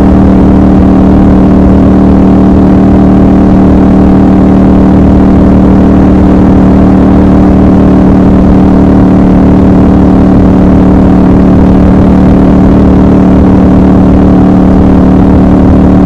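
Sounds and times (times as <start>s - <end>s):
motorcycle engine cruising: 0.0s - 16.0s
road and wind noise: 0.0s - 16.0s.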